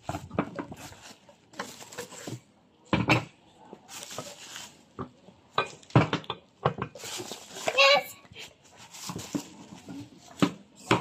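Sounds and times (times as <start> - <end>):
bubble wrap and plastic rustling: 0.0 - 11.0.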